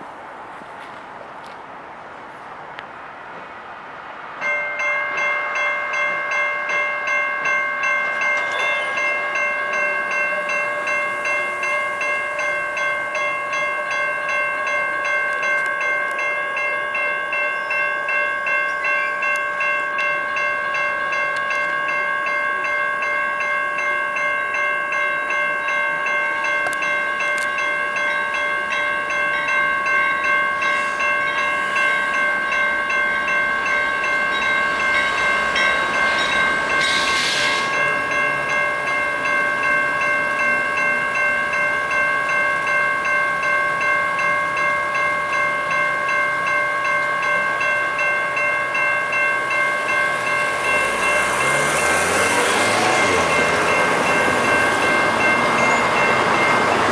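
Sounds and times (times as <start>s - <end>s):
railroad crossing bell ringing: 2.3s - 56.9s.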